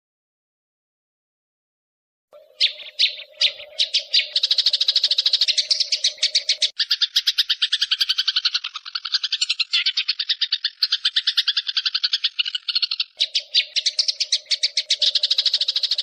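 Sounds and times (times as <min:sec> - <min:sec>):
songbird chattering trill: 0:02.4 - 0:16.0.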